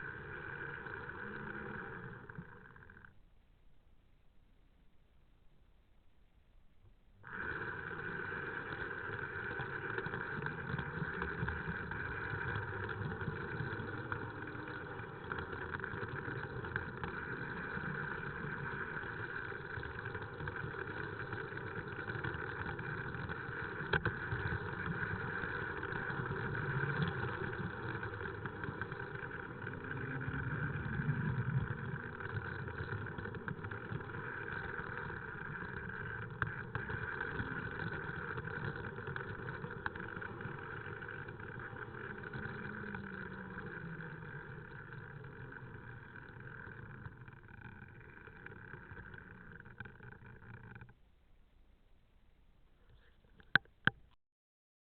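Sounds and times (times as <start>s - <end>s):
model train motor whirring: 0.0s - 3.1s, 7.2s - 50.9s.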